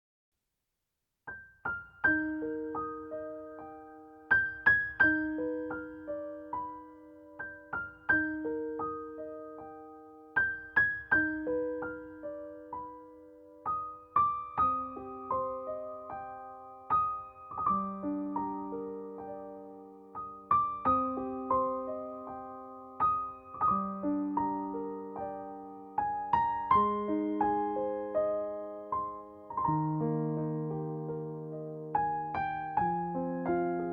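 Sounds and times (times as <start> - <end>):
slow gentle piano melody: 1.3 - 33.9.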